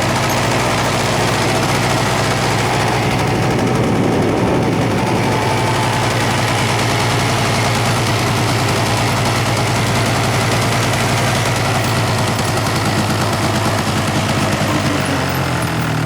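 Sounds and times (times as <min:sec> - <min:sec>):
vehicle engine running steadily: 0:00.0 - 0:16.0.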